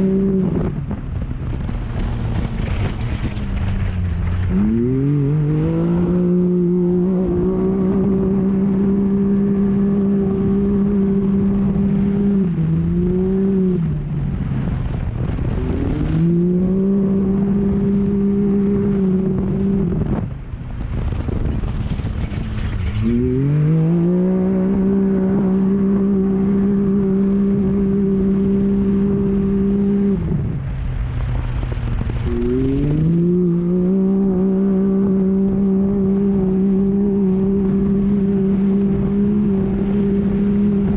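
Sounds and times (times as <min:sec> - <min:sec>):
race vehicle engine under load: 0:00.0 - 0:40.9
rough rumble of wind and terrain: 0:00.0 - 0:40.9.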